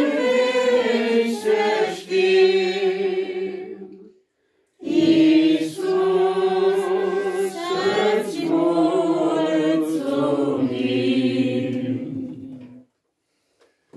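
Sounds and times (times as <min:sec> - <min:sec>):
congregation singing a hymn: 0:00.0 - 0:04.1, 0:04.8 - 0:12.9.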